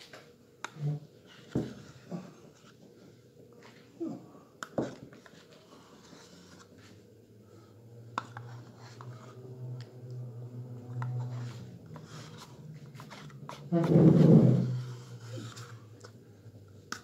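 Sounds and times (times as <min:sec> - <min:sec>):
low steady hum: 0:00.5 - 0:17.0.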